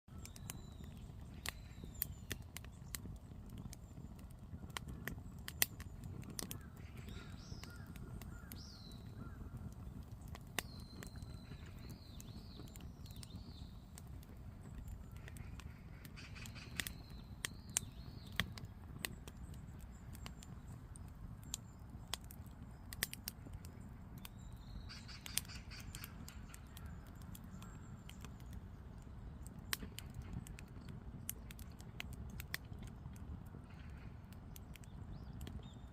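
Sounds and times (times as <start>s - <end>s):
birds calling: 0.1s - 35.9s
firewood crackling and popping: 0.1s - 35.9s.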